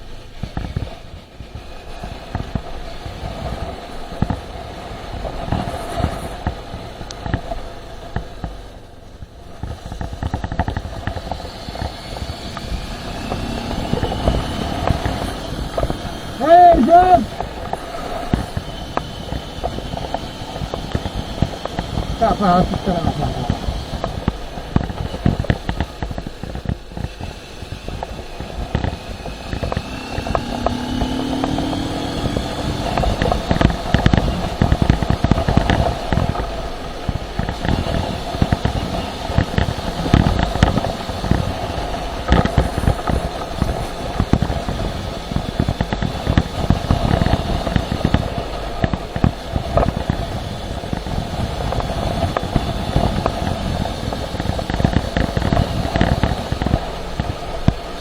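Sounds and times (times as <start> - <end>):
motorcycle engine rumbling: 0.0 - 58.0
wind noise on microphone: 0.0 - 58.0.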